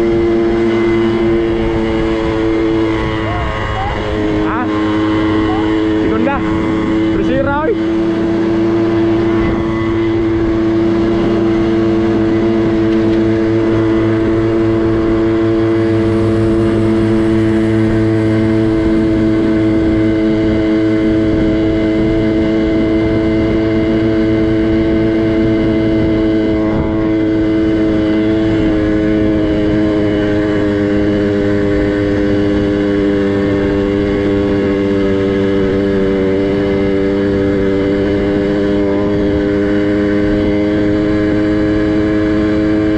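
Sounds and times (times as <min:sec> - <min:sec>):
two-stroke minibike engine running: 0:00.0 - 0:42.9.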